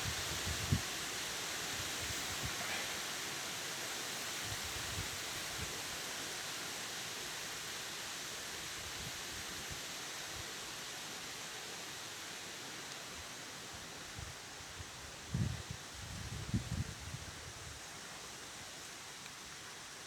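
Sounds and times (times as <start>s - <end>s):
wind rustling leaves: 0.0s - 20.0s.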